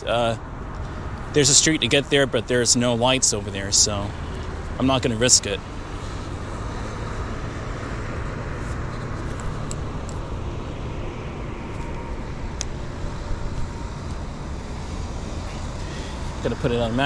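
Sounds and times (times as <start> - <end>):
background traffic: 0.0 - 17.0
road noise: 0.0 - 17.0.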